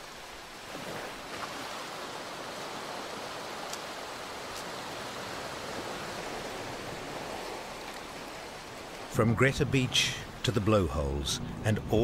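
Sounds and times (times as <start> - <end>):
sea surf on rocky shore: 0.0 - 12.0.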